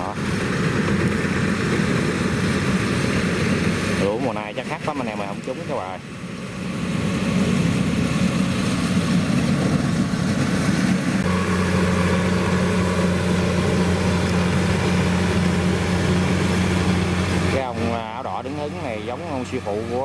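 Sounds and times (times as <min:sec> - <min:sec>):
combine harvester engine droning: 0:00.0 - 0:20.0.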